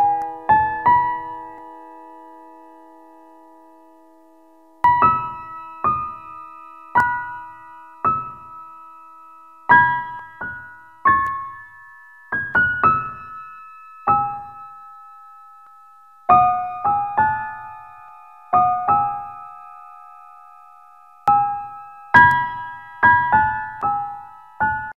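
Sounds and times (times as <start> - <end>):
slow piano music: 0.0 - 24.9.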